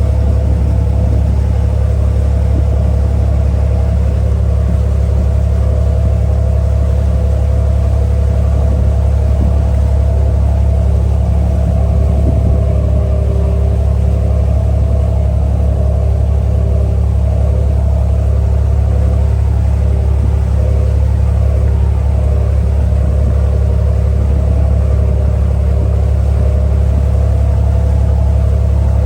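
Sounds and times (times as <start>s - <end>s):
ferry engine droning: 0.0s - 29.0s.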